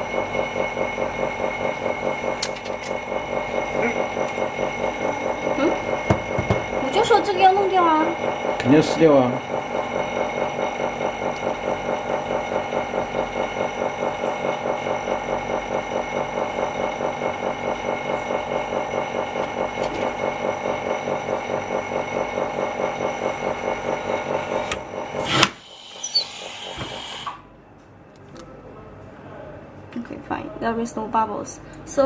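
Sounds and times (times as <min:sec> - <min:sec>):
vacuum pump pulsing hum: 0:00.0 - 0:29.0.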